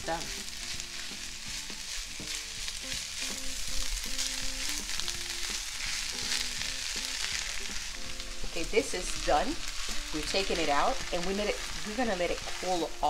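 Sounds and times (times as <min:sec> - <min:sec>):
spatula stirring: 0:00.0 - 0:13.0
vegetables sizzling in a frying pan: 0:00.0 - 0:13.0.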